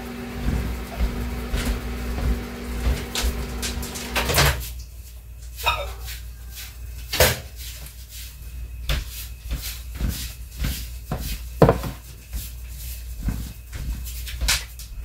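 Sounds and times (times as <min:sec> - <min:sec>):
kitchen items being handled: 0:00.3 - 0:15.0.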